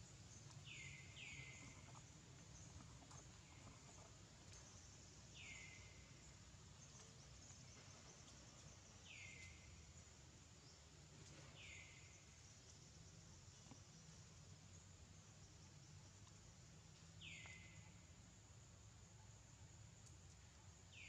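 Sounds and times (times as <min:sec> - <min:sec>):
high insect hum: 0:00.0 - 0:21.0.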